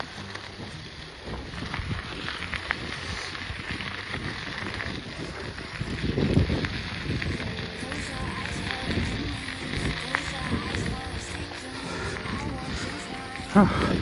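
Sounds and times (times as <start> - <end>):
bicycle clicks and rattles: 0.0 - 14.0
wind buffeting microphone: 0.0 - 14.0.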